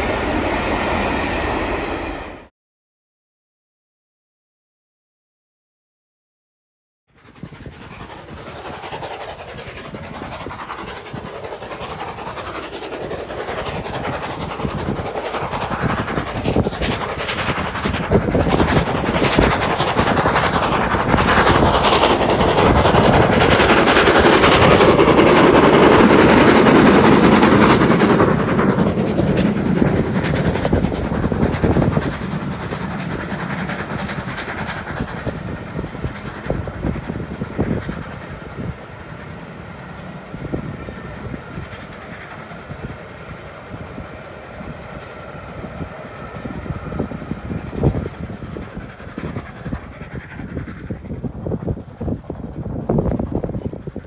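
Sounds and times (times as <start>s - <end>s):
steam locomotive chuffing: 0.0s - 2.5s, 7.2s - 54.0s.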